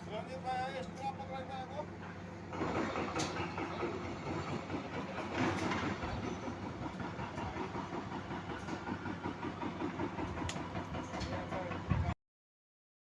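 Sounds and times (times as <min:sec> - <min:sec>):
engine running with fast pulsing: 0:00.0 - 0:12.1.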